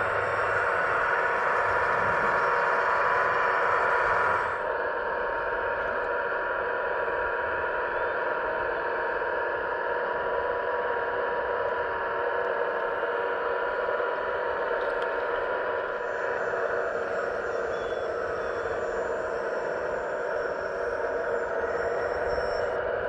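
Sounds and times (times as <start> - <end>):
mechanical whine: 0.0 - 23.0.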